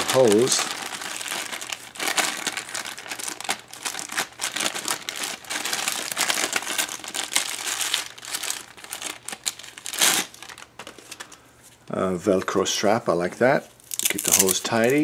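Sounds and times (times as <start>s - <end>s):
plastic bag crinkling: 0.0s - 11.4s, 13.9s - 15.0s.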